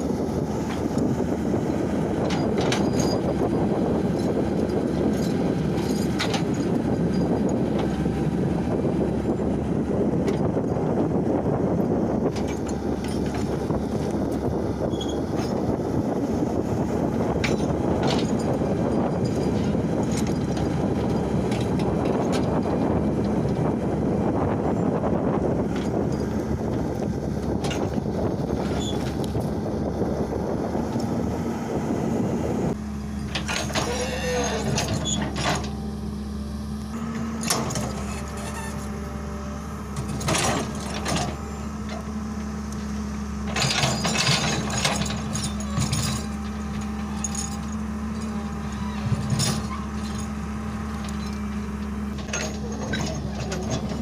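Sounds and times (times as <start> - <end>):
excavator diesel engine under load: 0.0 - 54.0
thin steady engine hum: 0.0 - 54.0.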